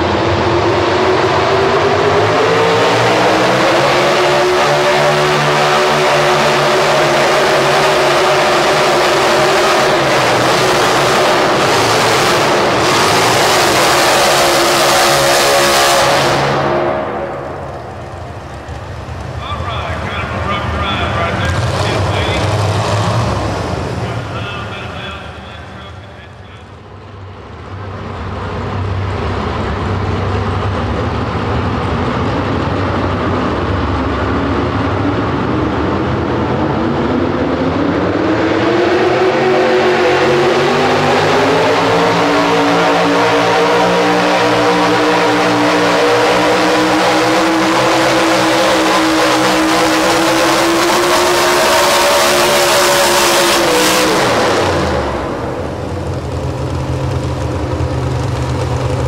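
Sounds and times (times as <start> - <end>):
truck engine at full throttle: 0.0 - 59.0.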